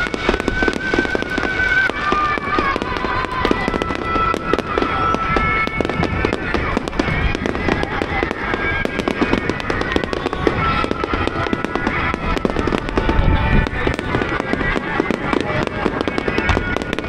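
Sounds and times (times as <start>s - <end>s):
music playing: 0.0s - 17.0s.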